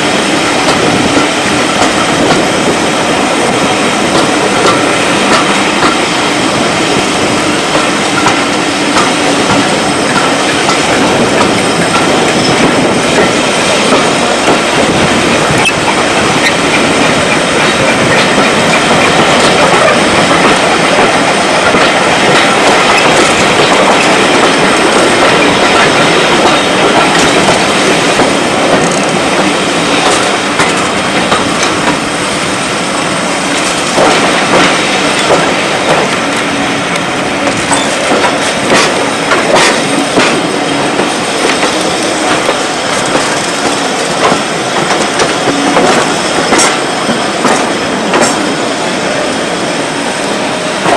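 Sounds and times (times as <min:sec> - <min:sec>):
rail clicks and knocks: 0:00.0 - 0:50.9
train wheels rumbling on track: 0:00.0 - 0:50.9.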